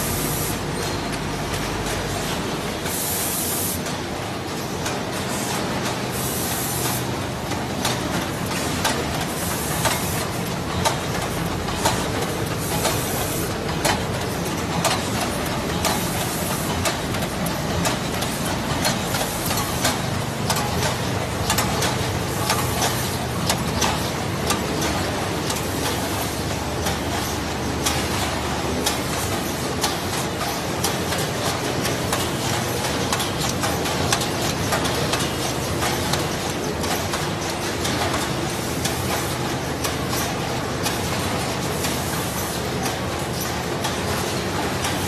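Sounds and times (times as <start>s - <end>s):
machine clacks and knocks: 6.8s - 45.0s.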